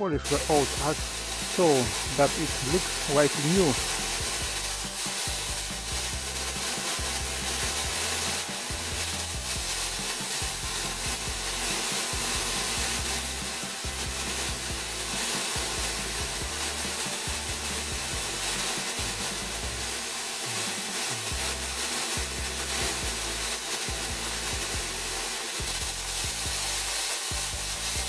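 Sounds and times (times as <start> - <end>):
abrasive grinding hiss: 0.0 - 28.0
drill motor whine: 0.0 - 28.0.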